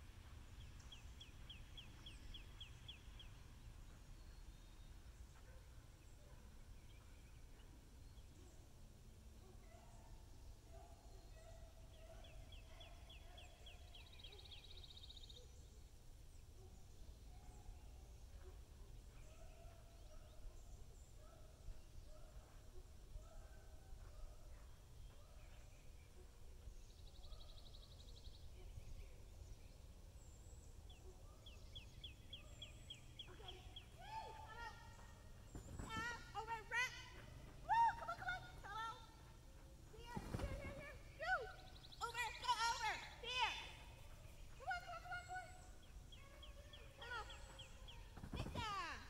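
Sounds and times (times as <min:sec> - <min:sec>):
faint songbirds: 0:00.0 - 0:49.0.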